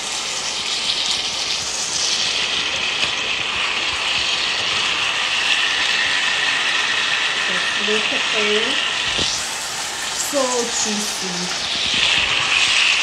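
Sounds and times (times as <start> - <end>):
chicken wings sizzling in pan: 0.0 - 13.0.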